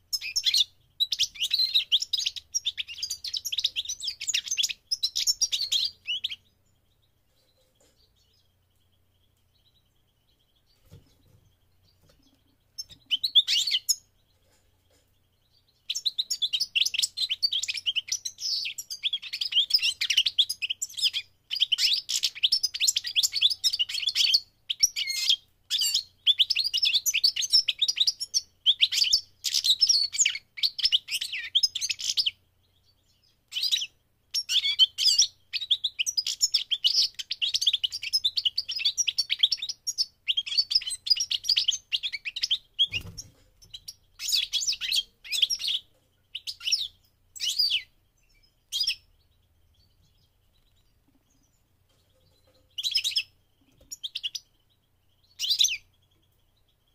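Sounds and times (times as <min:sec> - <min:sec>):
goldfinch twittering song: 0:00.0 - 0:56.9.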